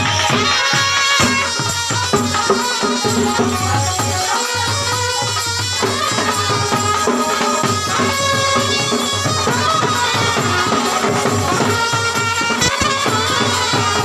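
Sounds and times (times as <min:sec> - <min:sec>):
drums beating rhythm: 0:00.0 - 0:14.0.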